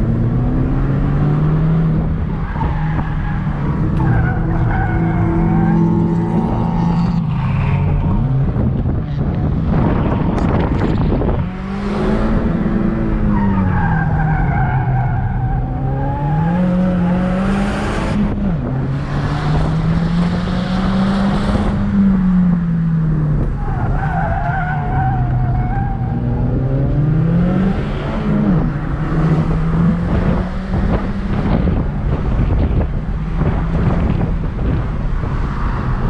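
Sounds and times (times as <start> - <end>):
car engine revving: 0.0 - 36.0
tyre and road noise: 0.0 - 36.0.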